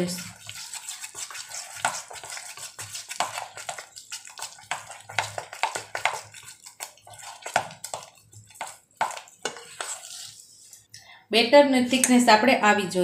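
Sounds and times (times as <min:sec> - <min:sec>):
spoon scraping a steel bowl: 0:00.0 - 0:10.8, 0:11.8 - 0:12.3.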